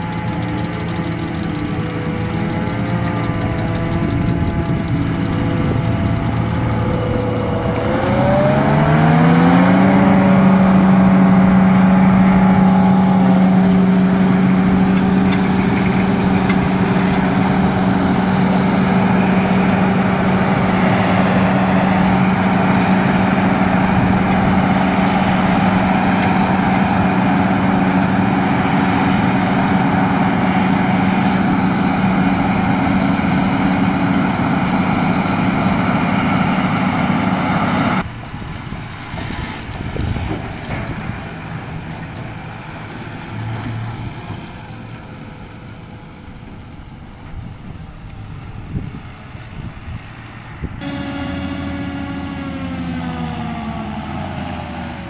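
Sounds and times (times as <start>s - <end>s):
forage harvester running: 0.0s - 55.0s.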